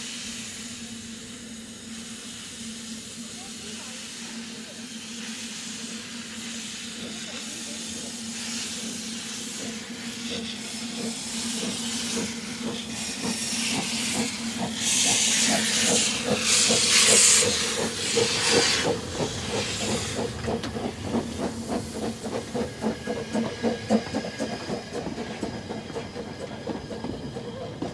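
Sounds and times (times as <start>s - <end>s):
steam locomotive hissing steam: 0.0s - 27.9s.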